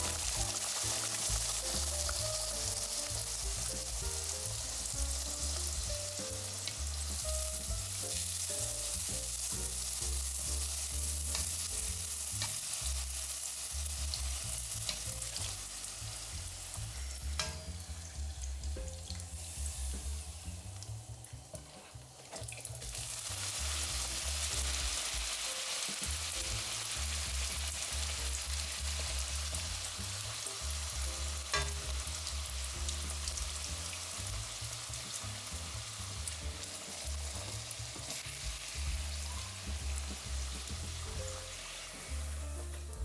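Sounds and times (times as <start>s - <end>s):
dough sizzling in oil: 0.0s - 43.0s
soft background music: 0.0s - 43.0s.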